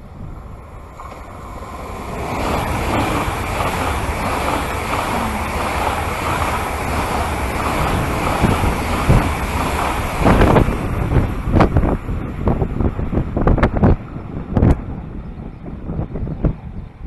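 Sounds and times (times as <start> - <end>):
high-speed train passing: 0.0 - 17.0
wind on microphone: 0.0 - 17.0.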